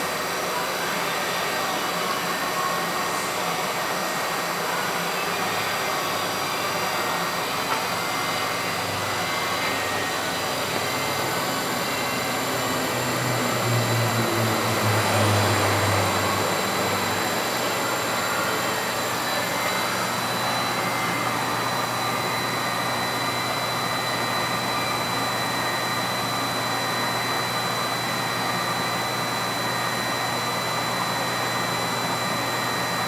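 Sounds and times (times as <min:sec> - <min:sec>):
router machine running with whine: 0:00.0 - 0:33.0.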